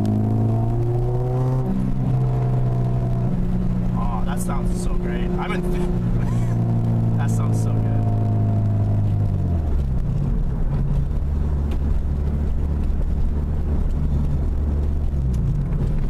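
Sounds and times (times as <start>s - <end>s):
car engine from inside cabin: 0.0s - 16.0s.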